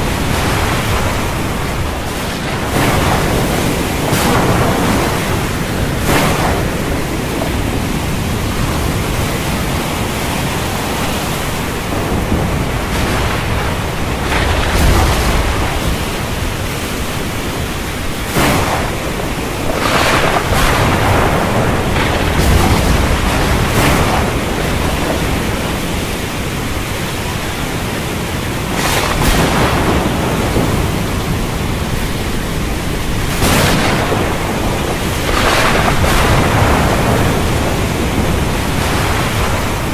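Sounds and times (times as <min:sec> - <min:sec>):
heavy rain hiss: 0:00.0 - 0:39.9
thunder cracks and rumbles: 0:00.0 - 0:39.9.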